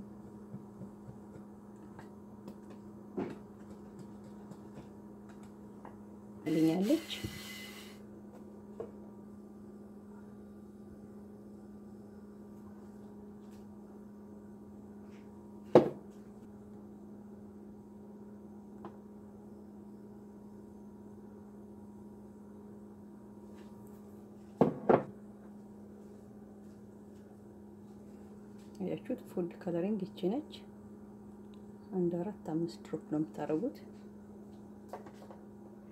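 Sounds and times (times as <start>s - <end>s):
low electrical hum: 0.0s - 35.9s.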